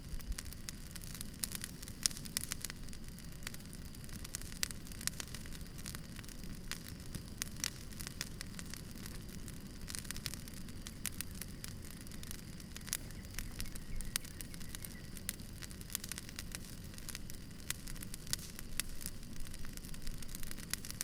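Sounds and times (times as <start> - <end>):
campfire crackling: 0.0 - 21.0
low steady background noise: 0.0 - 21.0.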